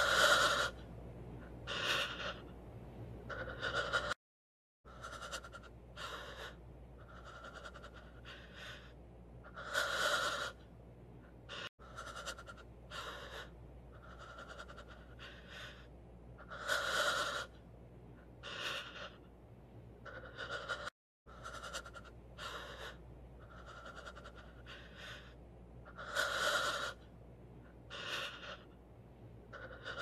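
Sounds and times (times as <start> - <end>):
person panting heavily: 0.0 - 0.8, 1.4 - 2.5, 3.3 - 4.2, 4.9 - 10.6, 11.3 - 17.6, 18.2 - 19.3, 20.0 - 27.0, 27.8 - 28.7, 29.5 - 30.0.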